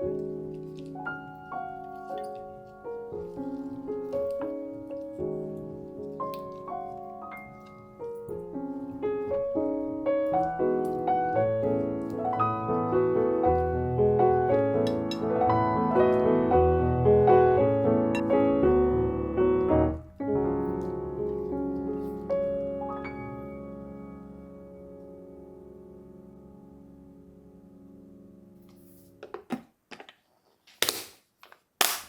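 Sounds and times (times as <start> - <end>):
gentle piano music: 0.0 - 29.3.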